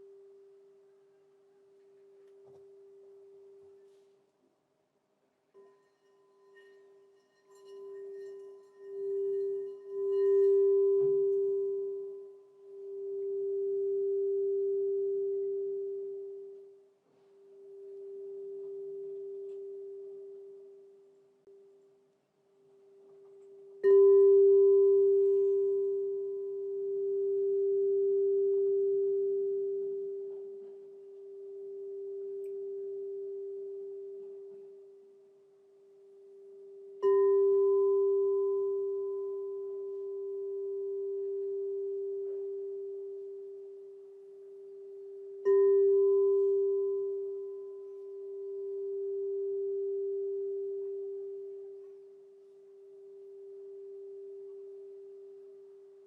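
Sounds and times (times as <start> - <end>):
singing bowl ringing: 5.5 - 21.6, 23.1 - 56.0.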